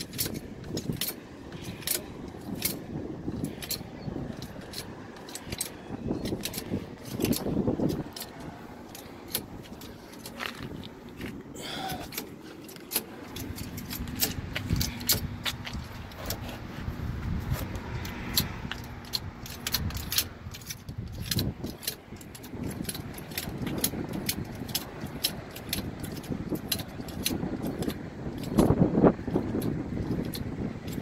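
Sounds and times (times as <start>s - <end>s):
metallic clicks and clinks: 0.0s - 16.6s, 17.5s - 31.0s.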